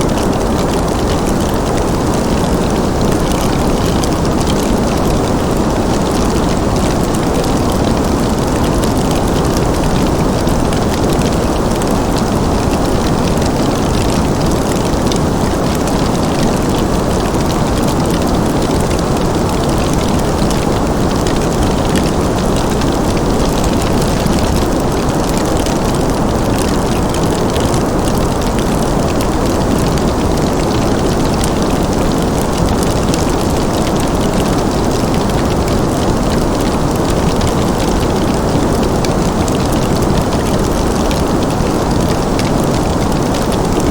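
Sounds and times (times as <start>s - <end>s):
steady rushing noise: 0.0s - 43.9s.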